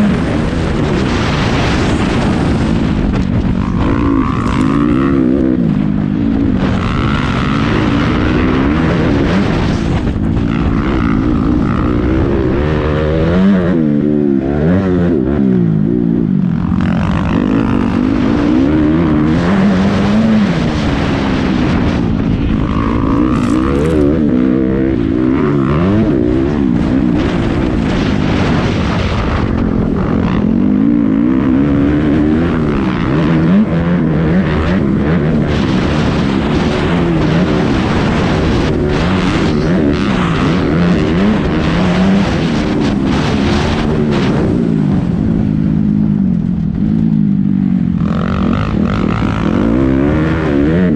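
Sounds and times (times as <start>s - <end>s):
motocross bike engine revving: 0.0s - 50.9s
track noise: 0.0s - 50.9s
wind on microphone: 0.0s - 50.9s.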